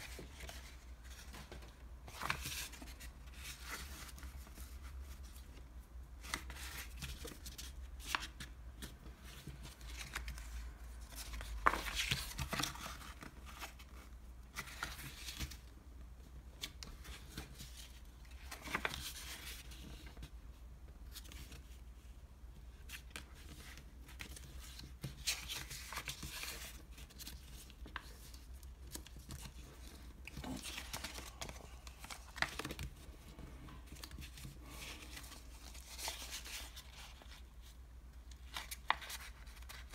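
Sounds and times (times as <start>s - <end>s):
paperboard rustling and crinkling: 0.0s - 15.7s, 16.4s - 20.3s, 21.0s - 39.9s.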